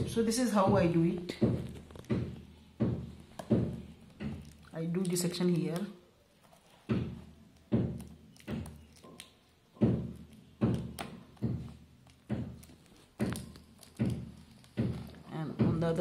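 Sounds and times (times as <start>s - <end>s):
dull thumps and knocks: 0.0s - 4.6s, 6.8s - 8.8s, 9.8s - 16.0s.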